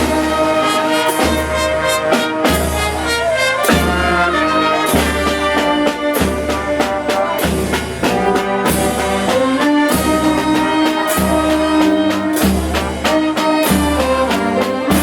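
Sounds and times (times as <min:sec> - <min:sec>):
steady drum beat: 0:00.0 - 0:15.0
trumpets and trombones: 0:00.0 - 0:15.0.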